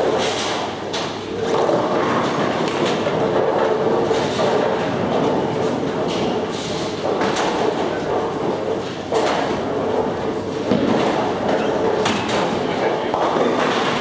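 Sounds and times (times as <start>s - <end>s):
bowling balls rolling: 0.0s - 14.0s
bowling pins clattering: 0.0s - 14.0s.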